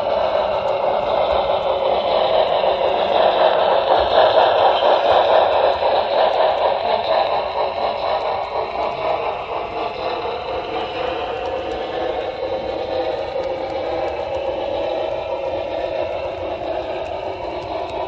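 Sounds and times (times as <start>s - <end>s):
model train wheels rattling on rails: 0.0s - 18.0s.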